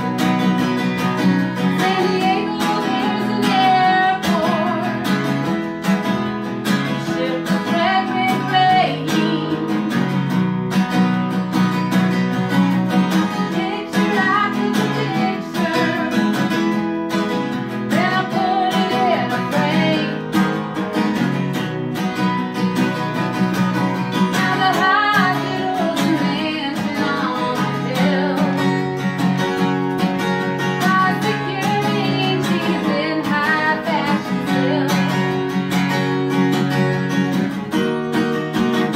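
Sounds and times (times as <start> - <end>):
acoustic band music: 0.0 - 38.9
strummed acoustic guitar: 0.0 - 38.9.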